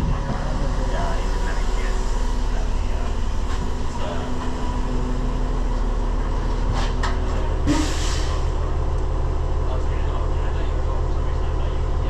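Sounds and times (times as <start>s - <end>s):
vehicle rumble and hum: 0.0s - 12.0s.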